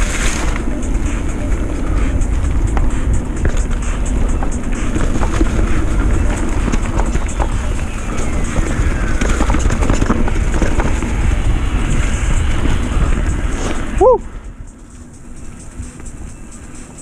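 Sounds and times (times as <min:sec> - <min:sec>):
bike rattling clicks: 0:00.0 - 0:13.8
bike tyre rumble: 0:00.0 - 0:17.0
wind buffeting microphone: 0:00.0 - 0:17.0.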